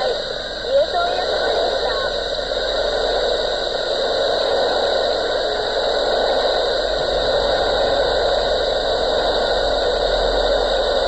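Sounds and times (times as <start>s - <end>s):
radio receiver static hiss: 0.0s - 11.0s.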